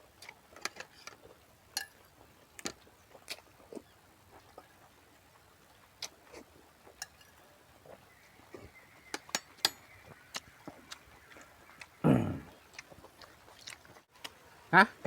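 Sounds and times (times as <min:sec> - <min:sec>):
person chewing food: 0:00.0 - 0:05.0, 0:05.8 - 0:14.4.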